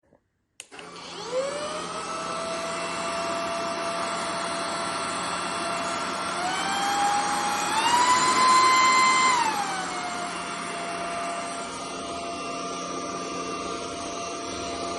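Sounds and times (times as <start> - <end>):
vacuum motor whine: 0.6 - 14.9.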